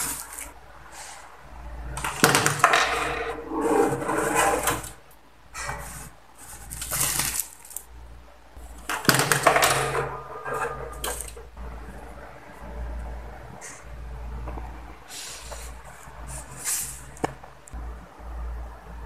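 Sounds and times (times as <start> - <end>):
mechanical clatter and rustling: 1.9 - 8.0, 8.6 - 17.8.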